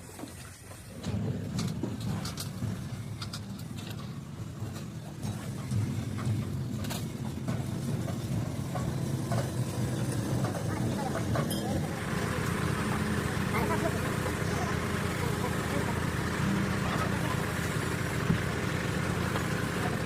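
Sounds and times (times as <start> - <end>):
engine running: 0.1 - 20.0.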